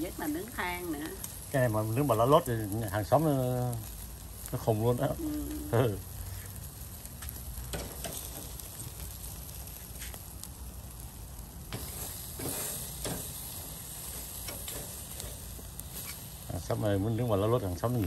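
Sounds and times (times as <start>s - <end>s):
meat sizzling on a grill: 0.0s - 18.0s.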